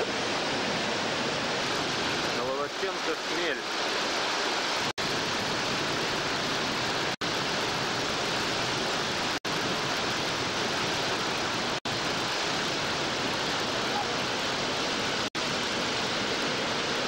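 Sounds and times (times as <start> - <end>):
whitewater rushing roar: 0.0 - 17.0.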